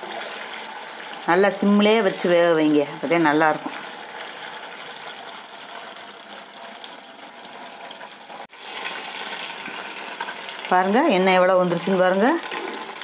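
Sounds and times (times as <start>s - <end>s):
coconut milk bubbling and sizzling: 0.0s - 13.0s.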